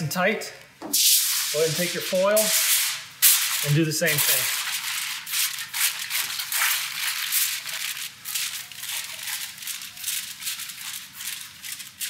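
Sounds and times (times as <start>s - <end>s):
aluminum foil crinkling: 1.3s - 12.0s.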